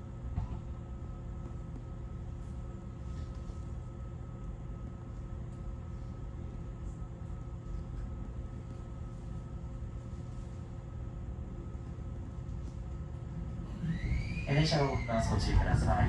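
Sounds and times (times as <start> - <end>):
train equipment hum: 0.0 - 16.0.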